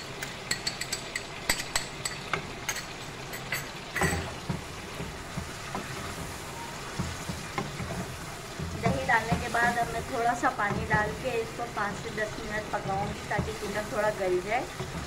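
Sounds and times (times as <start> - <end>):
food sizzling in oil: 0.0 - 15.0
spatula stirring pan: 0.1 - 15.0.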